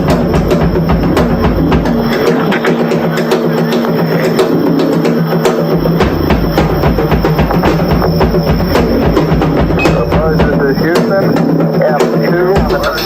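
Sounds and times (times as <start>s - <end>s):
steady low tone: 0.0s - 11.7s
drum solo on drum kit: 0.0s - 13.0s.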